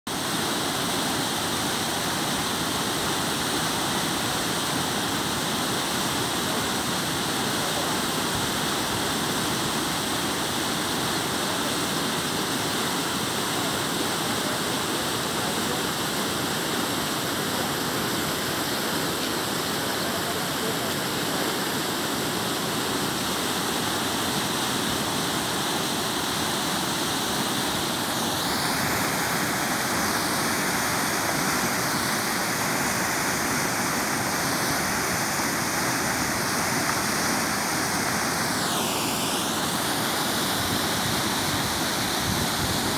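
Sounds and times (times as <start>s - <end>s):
floodwater rushing over concrete: 0.1s - 42.9s.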